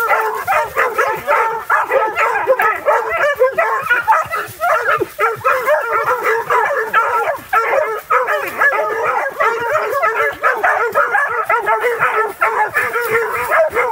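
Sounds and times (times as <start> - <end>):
dogs barking and yipping: 0.0 - 13.9.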